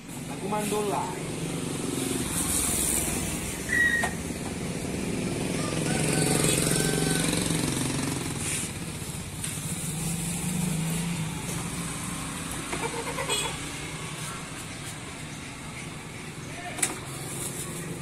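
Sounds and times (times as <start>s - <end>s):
engine running: 1.2s - 18.0s.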